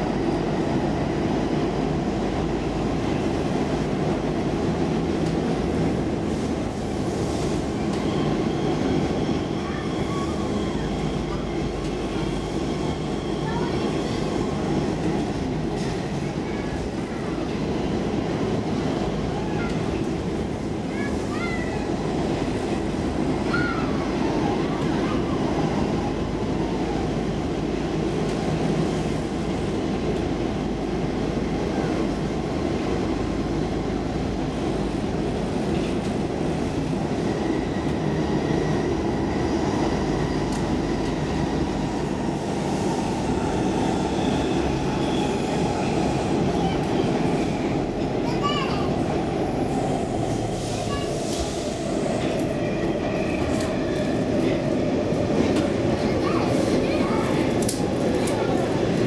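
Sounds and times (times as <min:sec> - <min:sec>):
rumble of wheels on rail: 0:00.0 - 0:59.0.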